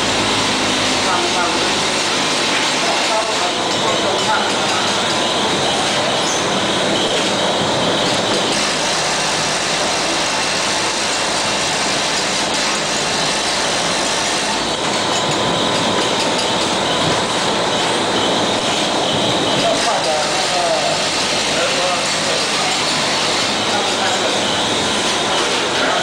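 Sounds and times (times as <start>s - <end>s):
bottle filling machine running: 0.0s - 26.0s.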